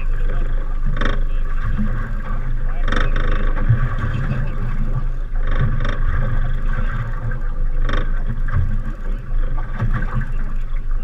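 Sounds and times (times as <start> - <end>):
water splashing: 0.0 - 11.0
wind and water rumble: 0.0 - 11.0.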